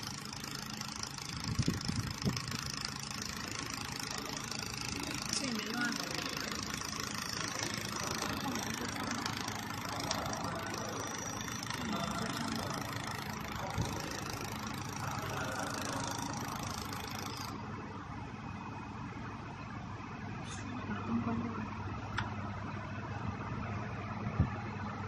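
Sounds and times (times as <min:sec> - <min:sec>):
laser welding machine humming: 0:00.0 - 0:24.1.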